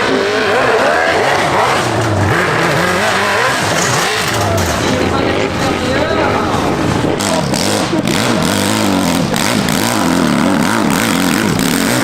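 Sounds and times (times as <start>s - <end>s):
racing motorcycle engines revving: 0.0s - 12.0s.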